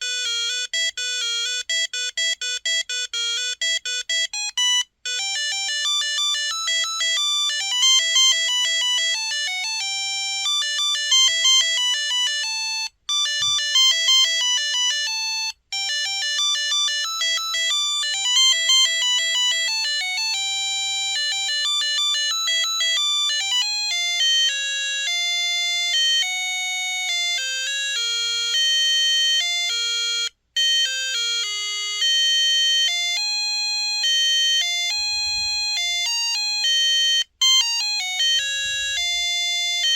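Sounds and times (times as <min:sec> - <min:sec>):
monophonic phone ringtone melody: 0:00.0 - 0:39.9.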